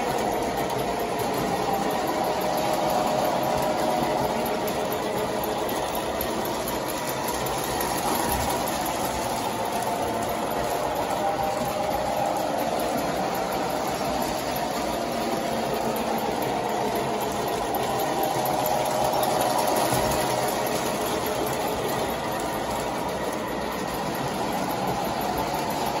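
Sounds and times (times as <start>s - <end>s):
model train motors whirring: 0.0s - 26.0s
wheels rumbling over rails: 0.0s - 26.0s.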